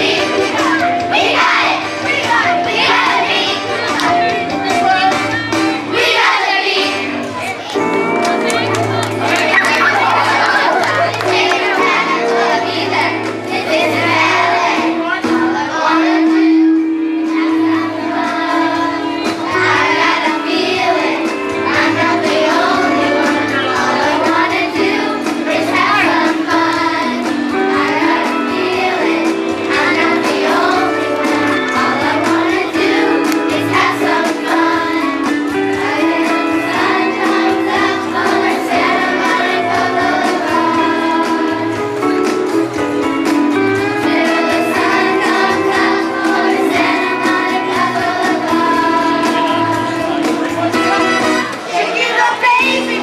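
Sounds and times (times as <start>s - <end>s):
children's choir singing: 0.0s - 53.0s
instrumental accompaniment with beat: 0.0s - 53.0s.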